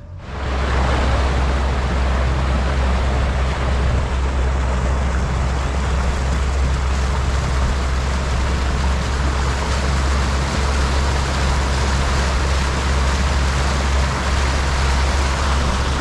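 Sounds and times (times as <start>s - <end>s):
motorboat engine running: 0.0s - 16.0s
rushing water: 0.0s - 16.0s
wind noise: 0.0s - 16.0s.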